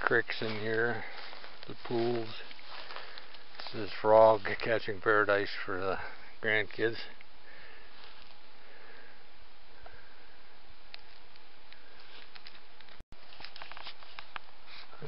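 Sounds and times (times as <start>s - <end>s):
open-air background hiss: 0.0s - 15.0s.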